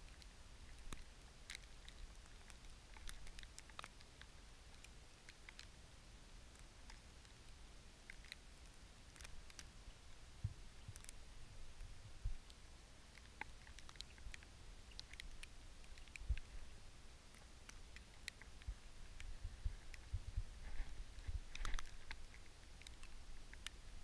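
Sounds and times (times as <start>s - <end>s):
small ticks and rustles: 0.0s - 24.0s.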